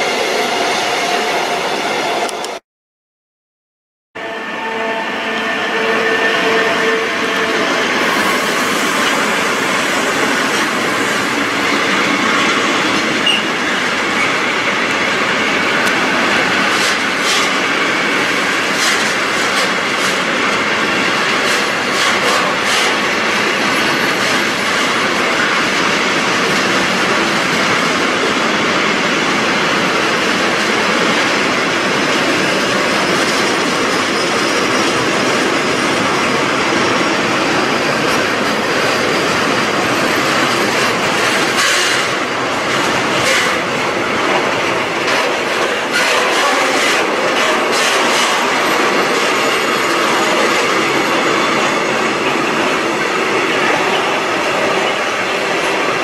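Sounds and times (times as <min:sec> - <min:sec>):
train wheels on rails: 0:06.3 - 0:56.0.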